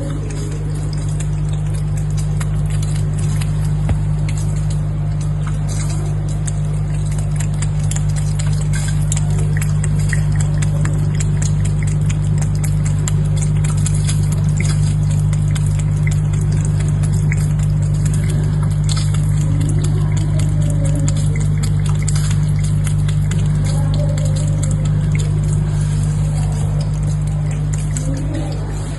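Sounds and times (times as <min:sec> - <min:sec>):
small irregular clicks: 0:00.0 - 0:25.8
aquarium pump humming: 0:00.0 - 0:28.9
water trickling: 0:00.0 - 0:28.9.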